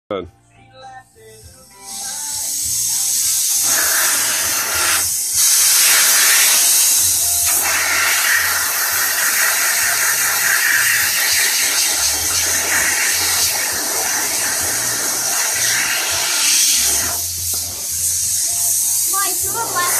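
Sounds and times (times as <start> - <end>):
compressed air hissing from valve: 1.1 - 19.9.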